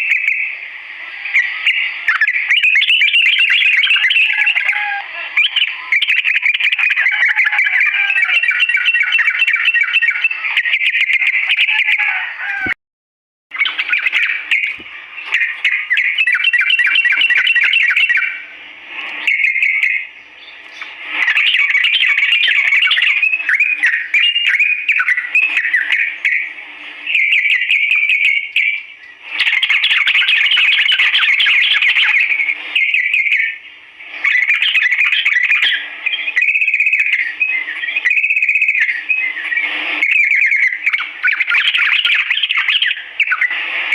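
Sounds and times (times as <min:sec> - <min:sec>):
bird singing chattering song: 0:00.0 - 0:00.6, 0:01.2 - 0:12.7, 0:13.5 - 0:43.6.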